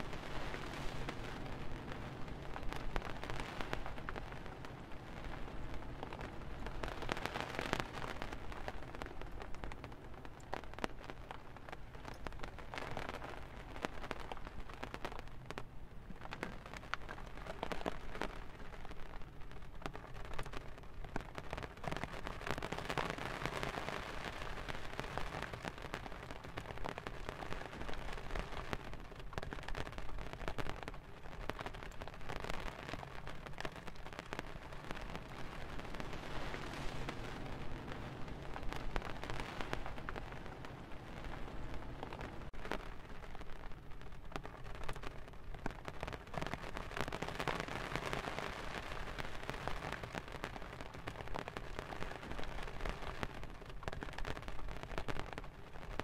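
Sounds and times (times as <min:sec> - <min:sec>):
rain on tent fabric: 0:00.0 - 0:56.0.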